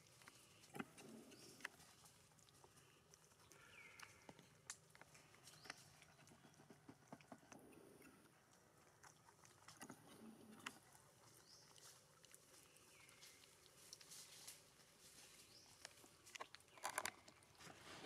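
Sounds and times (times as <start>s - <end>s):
small ticks and rustles: 0.0s - 18.0s.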